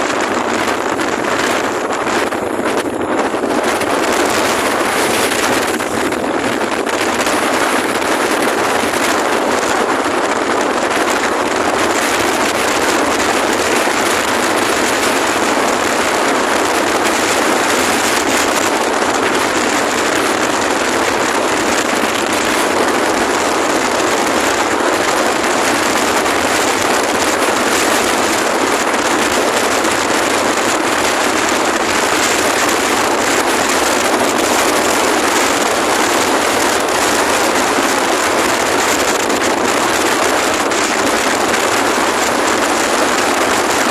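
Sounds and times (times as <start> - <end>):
strong wind across microphone: 0.0 - 43.9.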